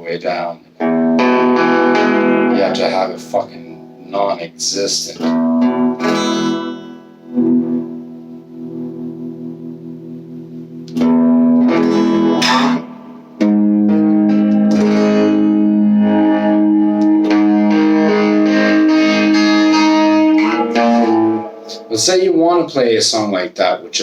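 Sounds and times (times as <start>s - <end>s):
overdriven electric guitar chords: 0.7s - 22.1s.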